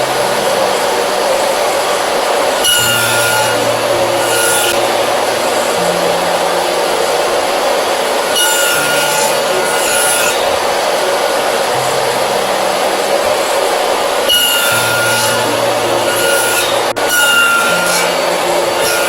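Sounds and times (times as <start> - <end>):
power tool cutting wood: 0.0 - 19.0.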